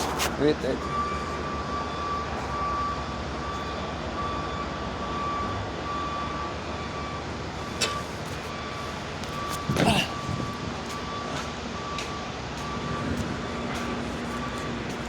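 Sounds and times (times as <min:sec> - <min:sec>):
vehicle running noise: 0:00.0 - 0:15.0.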